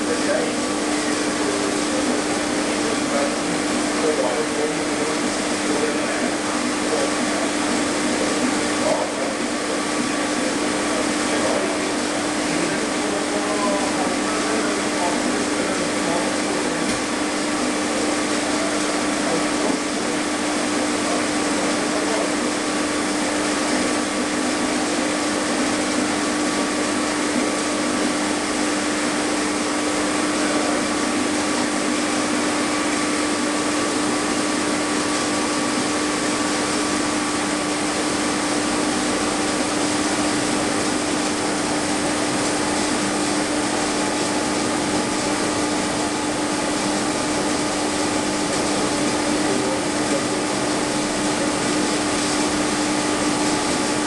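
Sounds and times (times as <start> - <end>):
water turbine generator whirring: 0.0 - 54.0.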